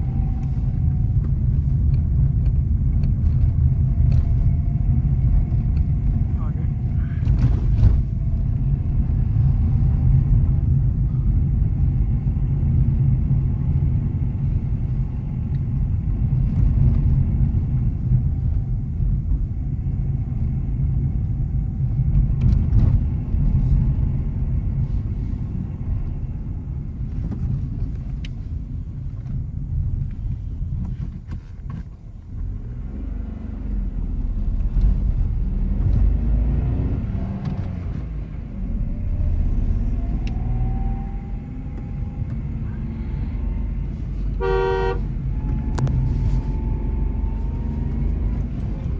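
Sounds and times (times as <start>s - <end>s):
car engine rumbling: 0.0s - 48.9s
tyres on road: 0.0s - 48.9s.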